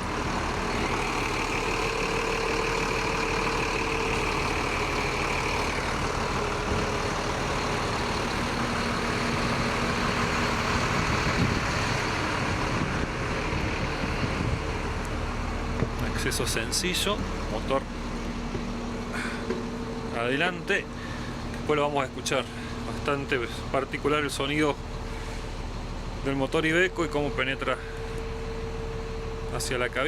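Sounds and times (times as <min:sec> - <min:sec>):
diesel bus engine idling: 0:00.0 - 0:30.0.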